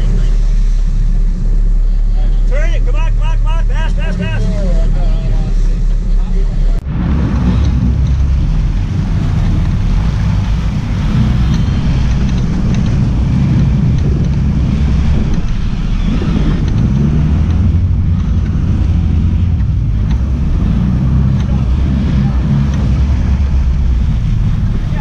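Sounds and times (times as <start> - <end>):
boat engines rumbling: 0.0 - 25.0
water churning: 0.0 - 25.0
wind buffeting microphone: 4.9 - 25.0.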